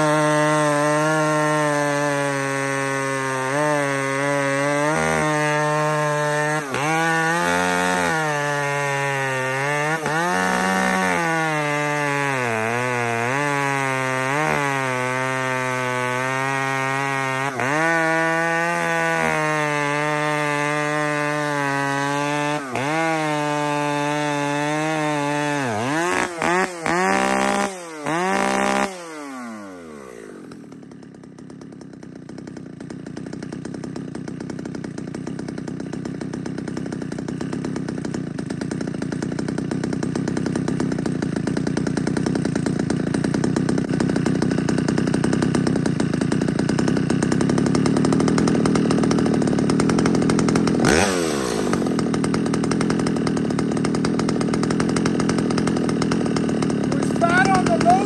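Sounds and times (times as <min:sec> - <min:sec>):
chainsaw cutting at full throttle: 0:00.0 - 0:58.0
chainsaw idling: 0:00.0 - 0:58.0.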